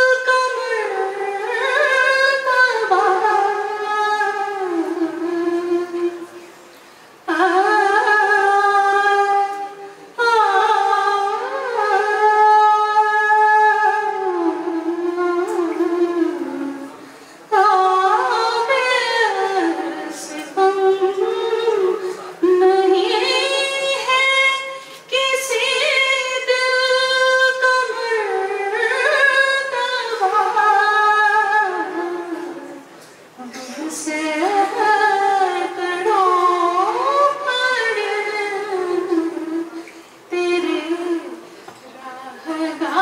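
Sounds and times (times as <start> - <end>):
woman singing unaccompanied: 0.0 - 6.5, 7.2 - 32.8, 33.4 - 43.0.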